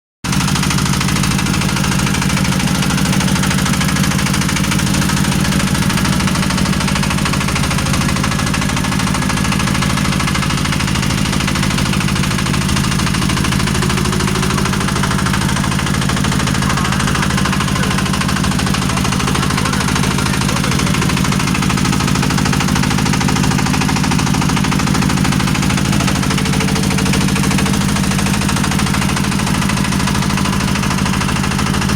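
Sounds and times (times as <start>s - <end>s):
boat engine humming: 0.3s - 31.9s.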